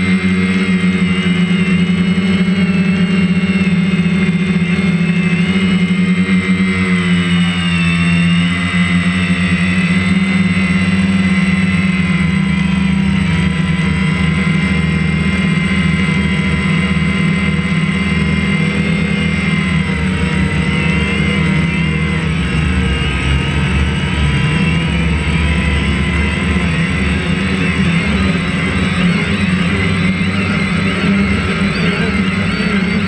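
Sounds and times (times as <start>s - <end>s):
drone propellers droning: 0.0s - 33.0s.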